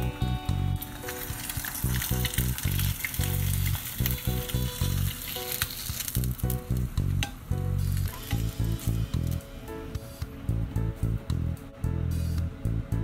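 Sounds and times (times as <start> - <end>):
background music with bass line: 0.0 - 0.9, 1.6 - 5.2, 6.2 - 13.0
hot oil sizzling: 0.0 - 11.2.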